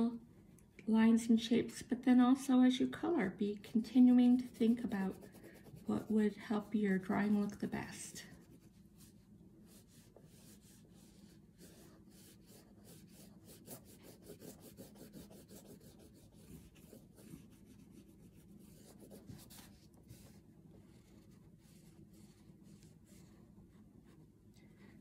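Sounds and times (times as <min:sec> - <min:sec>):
pastel scratching on paper: 0:03.6 - 0:25.0.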